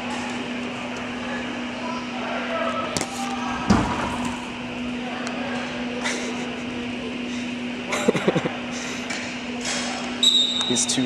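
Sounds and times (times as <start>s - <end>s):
distant voices: 0.0s - 11.0s
steady hum: 0.0s - 11.0s.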